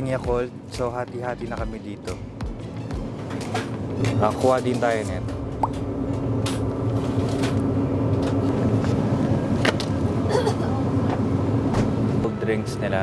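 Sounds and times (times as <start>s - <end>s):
store ambience hum: 0.0s - 13.0s.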